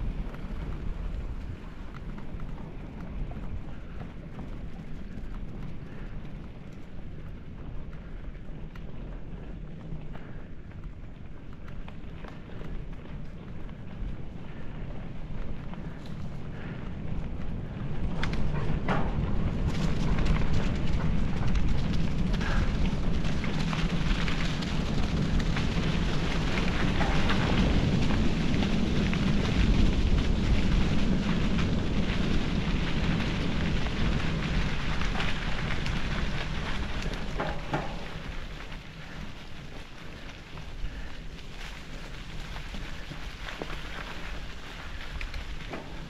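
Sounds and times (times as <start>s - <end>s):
bicycle tyres rolling: 0.0s - 46.0s
small crackles: 0.0s - 46.0s
wind rumbling on microphone: 0.0s - 46.0s.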